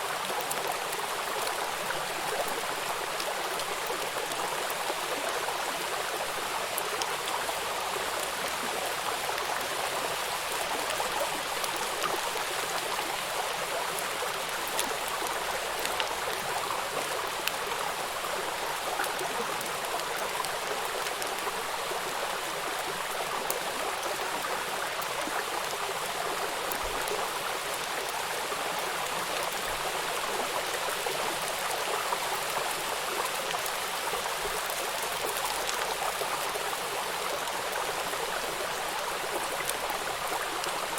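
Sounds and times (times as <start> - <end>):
stream of running water: 0.0 - 40.9.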